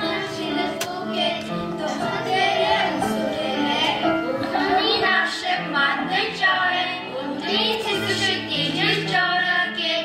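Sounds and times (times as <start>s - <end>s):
children singing: 0.0s - 10.0s
instrumental accompaniment: 0.0s - 10.0s.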